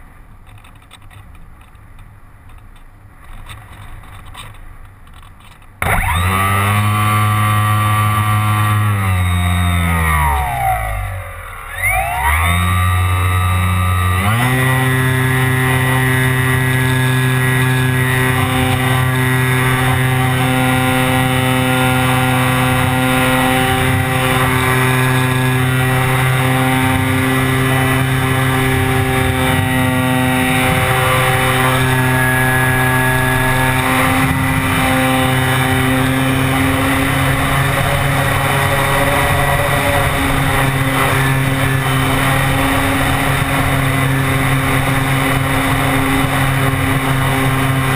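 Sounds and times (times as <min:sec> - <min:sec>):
electric motor and propeller humming: 0:00.0 - 0:47.9.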